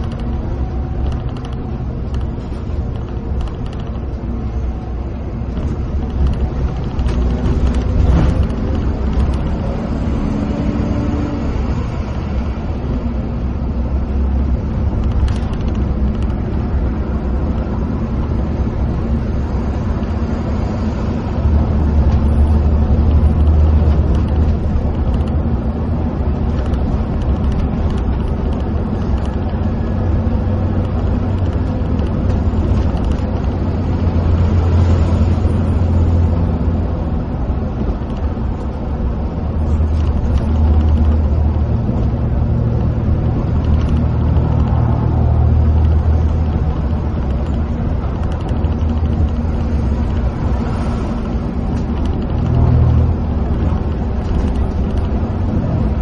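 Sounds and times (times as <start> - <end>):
bus engine and tyre rumble: 0.0 - 56.0.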